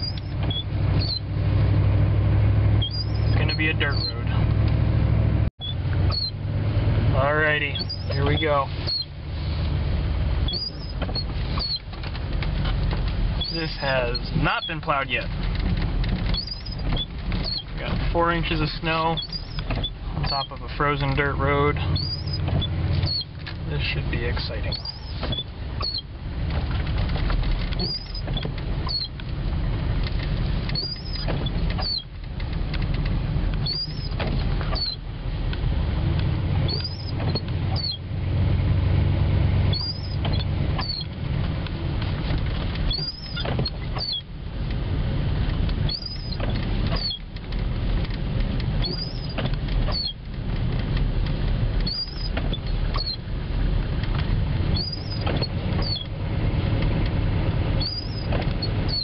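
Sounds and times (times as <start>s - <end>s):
windshield wipers squeaking: 0.0s - 4.9s, 5.6s - 6.4s, 7.2s - 59.0s
engine and tyre rumble: 0.0s - 59.0s.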